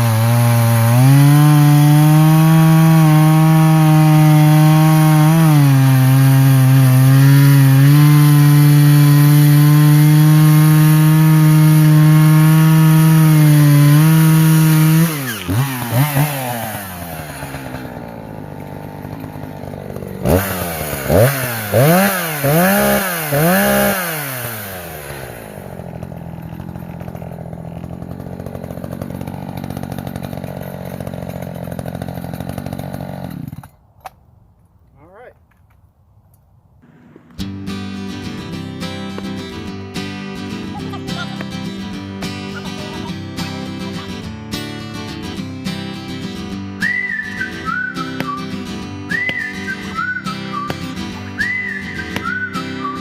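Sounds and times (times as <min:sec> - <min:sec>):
chainsaw revving and idling: 0:00.0 - 0:33.8, 0:36.8 - 0:53.0
chainsaw cutting log: 0:00.0 - 0:34.2, 0:36.8 - 0:53.0.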